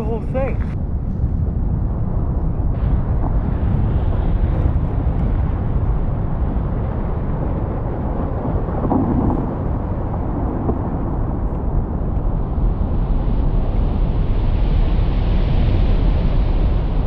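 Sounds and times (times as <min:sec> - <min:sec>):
low rumble of glacier calving: 0:00.0 - 0:17.0
wind on microphone: 0:00.0 - 0:17.0.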